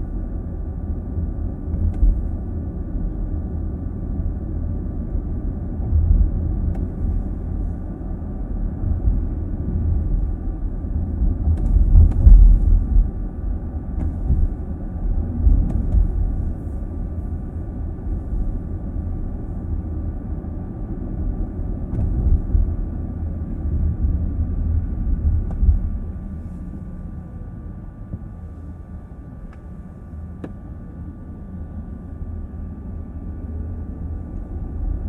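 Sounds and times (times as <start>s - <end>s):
road and tyre rumble: 0.0s - 35.0s.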